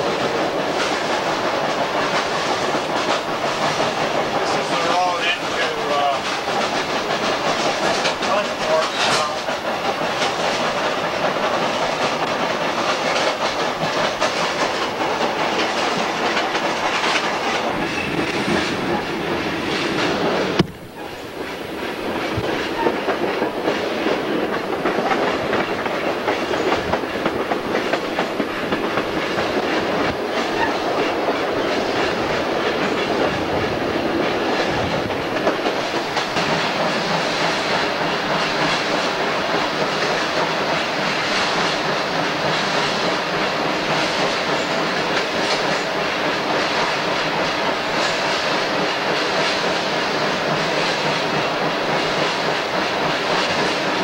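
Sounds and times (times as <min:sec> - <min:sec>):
train wheels on rails: 0:00.0 - 0:54.0
wheels clicking over rail joints: 0:00.0 - 0:54.0.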